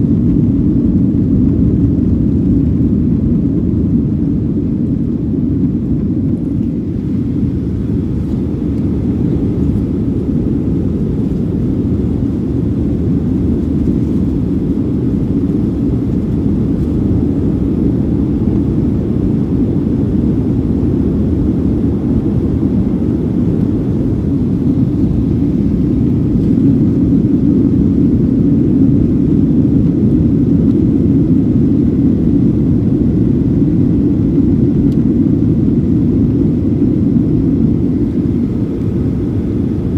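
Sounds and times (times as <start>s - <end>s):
airplane engine rumble: 0.0s - 39.9s.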